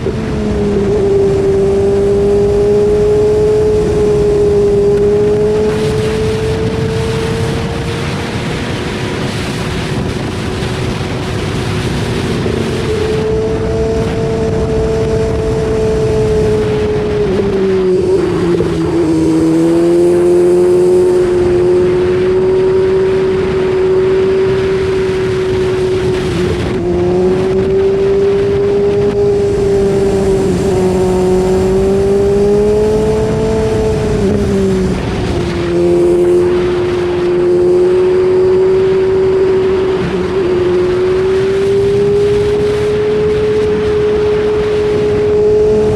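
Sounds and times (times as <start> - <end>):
motorcycle engine at high revs: 0.0 - 45.9.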